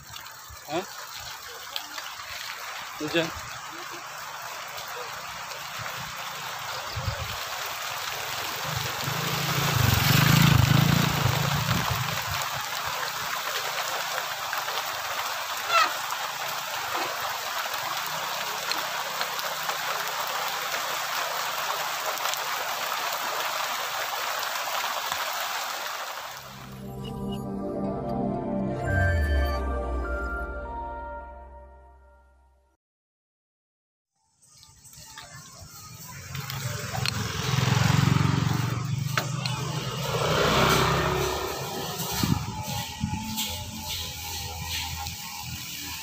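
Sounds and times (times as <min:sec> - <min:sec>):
rain hissing: 0:00.0 - 0:27.8, 0:34.4 - 0:46.0.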